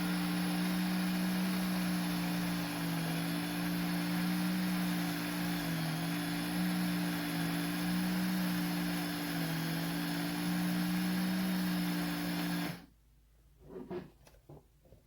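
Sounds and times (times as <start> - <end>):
coffee grinder motor whirring: 0.0 - 12.9.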